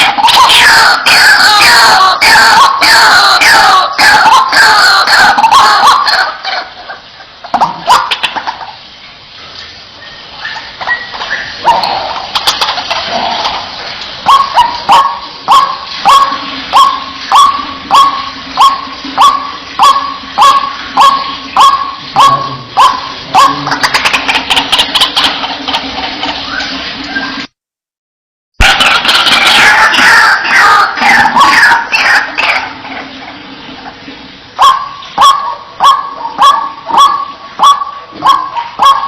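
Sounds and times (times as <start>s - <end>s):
waterhen calling: 0.0s - 27.5s, 28.6s - 39.0s.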